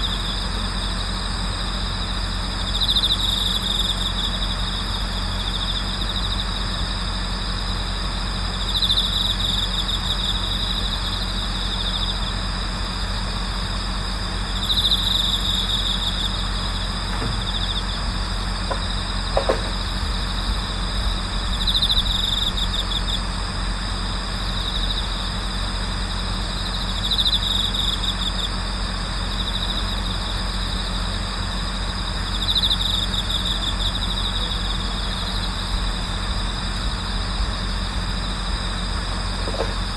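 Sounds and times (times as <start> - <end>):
crickets trilling: 0.0 - 39.9
low hum: 0.0 - 39.9.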